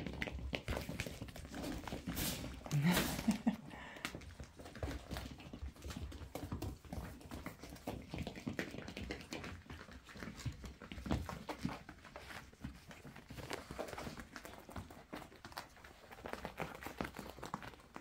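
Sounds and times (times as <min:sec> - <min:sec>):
puppy paws pattering and claws tapping: 0:00.0 - 0:18.0.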